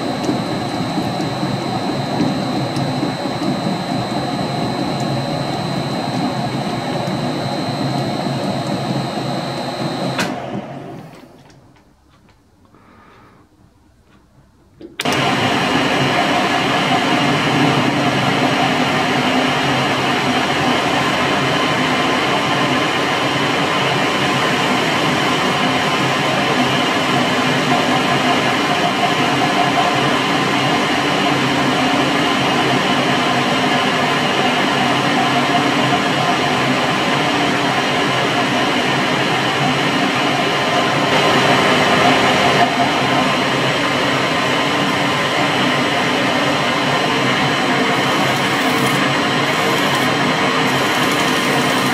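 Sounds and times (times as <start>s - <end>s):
metal lathe whirring: 0.0s - 11.3s, 15.0s - 51.9s.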